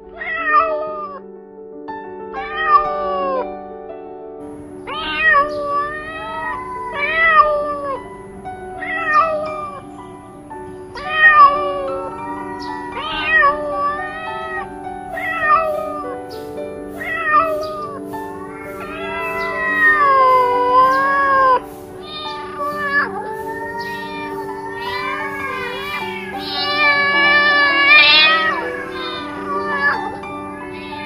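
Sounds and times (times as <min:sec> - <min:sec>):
background music: 0:00.0 - 0:31.0
cat yowling: 0:02.4 - 0:03.4, 0:04.8 - 0:10.0, 0:10.9 - 0:31.0.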